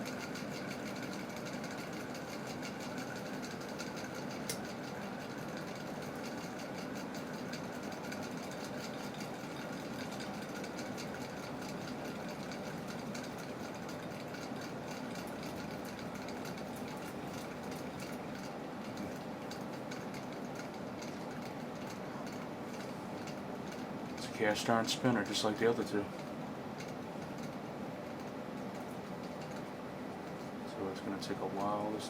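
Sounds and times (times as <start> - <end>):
fast uneven bearing ticking: 0.0 - 29.7
ceiling fan motor running: 0.0 - 32.0.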